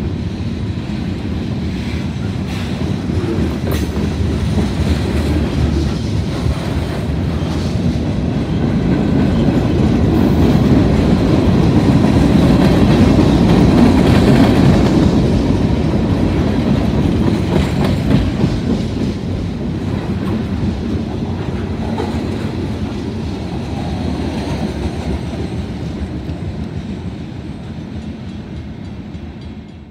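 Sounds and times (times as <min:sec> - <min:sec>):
freight train rolling past: 0:00.0 - 0:29.9.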